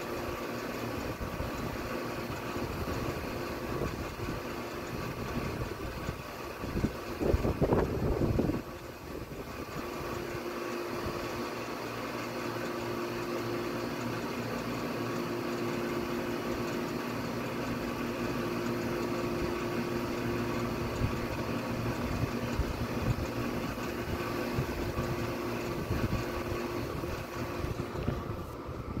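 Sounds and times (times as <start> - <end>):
machine hum: 0.0 - 29.0.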